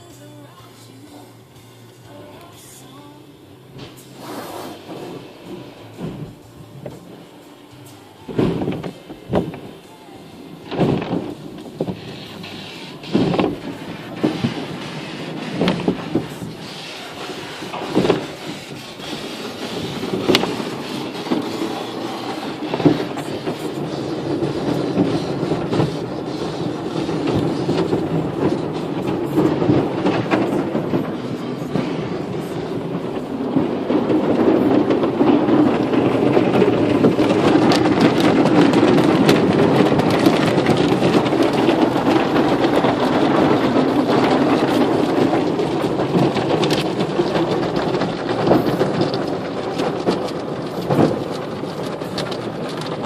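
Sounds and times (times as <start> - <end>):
car wash rumble: 0.0 - 53.0.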